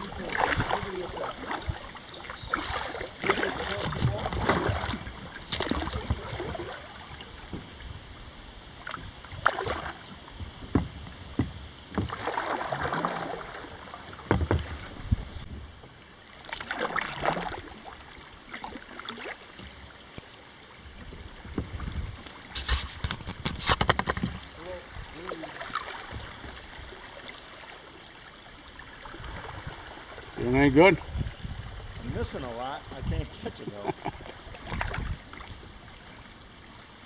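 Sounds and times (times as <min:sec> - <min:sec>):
paddle splashing in water: 0:00.0 - 0:32.6, 0:33.4 - 0:37.0.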